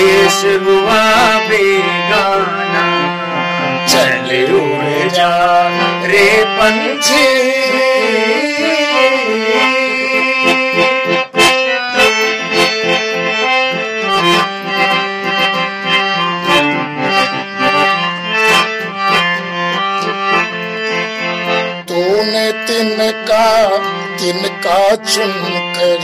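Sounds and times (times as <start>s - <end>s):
free-reed keyboard melody: 0.0s - 26.0s.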